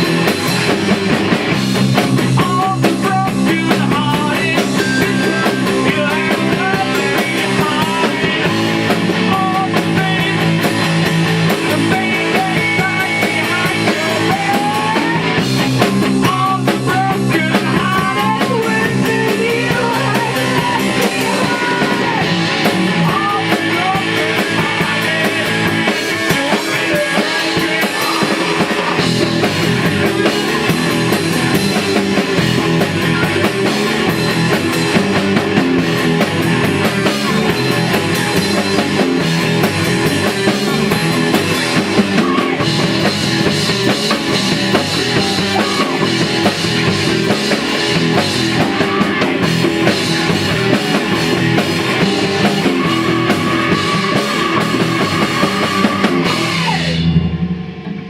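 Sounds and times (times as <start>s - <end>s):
drum kit: 0.0s - 58.0s
electric guitar: 0.0s - 58.0s
rock band playing: 0.0s - 58.0s.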